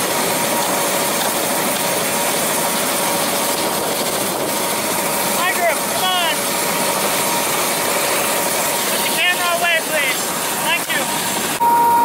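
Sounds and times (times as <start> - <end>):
steady engine noise: 0.0 - 12.0.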